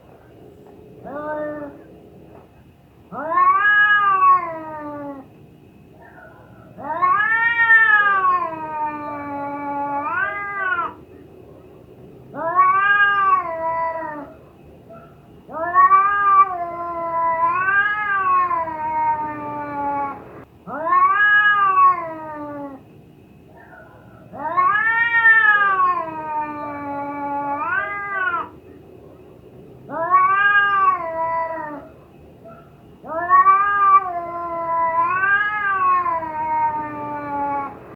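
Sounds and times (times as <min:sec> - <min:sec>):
cat yowling: 0:01.0 - 0:01.9, 0:03.1 - 0:05.3, 0:06.0 - 0:11.0, 0:12.3 - 0:22.9, 0:23.6 - 0:28.6, 0:29.8 - 0:37.9.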